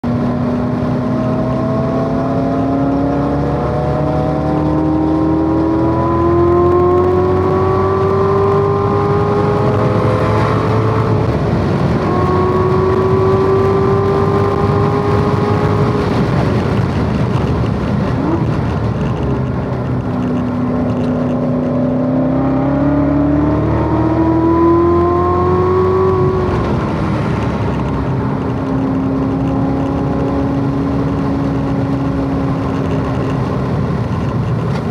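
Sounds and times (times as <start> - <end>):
car engine accelerating: 0.0 - 34.9
wind and road noise: 0.0 - 34.9.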